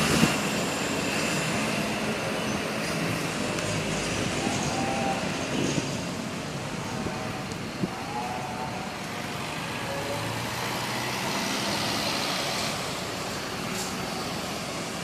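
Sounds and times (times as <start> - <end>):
vehicle engines and tyres: 0.0 - 15.0.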